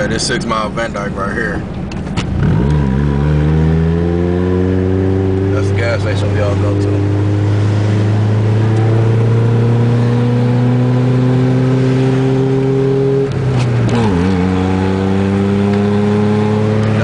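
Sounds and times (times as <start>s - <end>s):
car engine accelerating: 1.8s - 17.0s.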